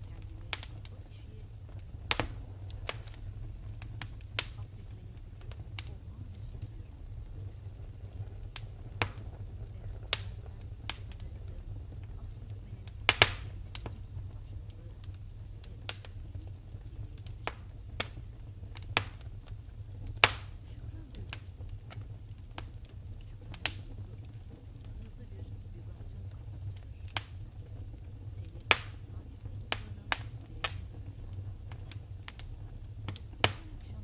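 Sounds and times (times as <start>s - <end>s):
low rumble: 0.0s - 34.0s
wood fire crackling: 0.0s - 34.0s.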